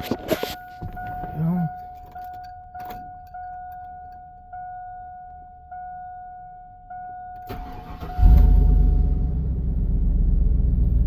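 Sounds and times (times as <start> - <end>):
dashboard warning chime: 0.0 - 9.4.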